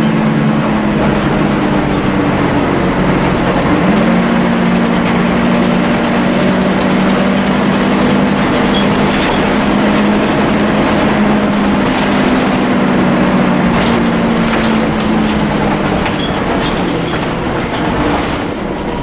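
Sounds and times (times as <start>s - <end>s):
bus engine whining: 0.0s - 19.0s.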